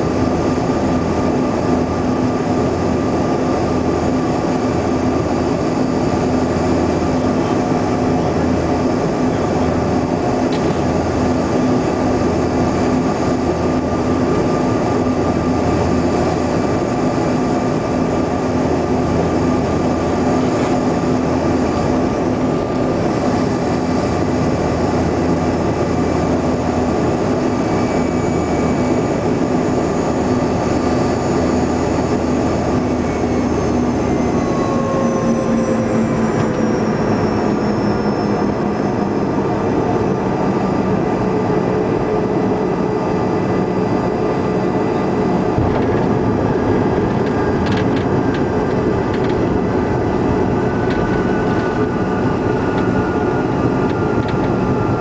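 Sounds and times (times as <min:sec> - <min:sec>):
airflow rush in cabin: 0:00.0 - 0:55.0
jet engines droning: 0:00.0 - 0:55.0.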